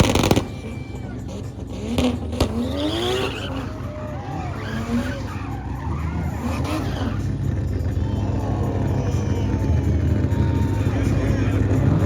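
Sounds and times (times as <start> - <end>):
car tyres squealing: 0.0 - 12.0
engine rumble: 0.0 - 12.0.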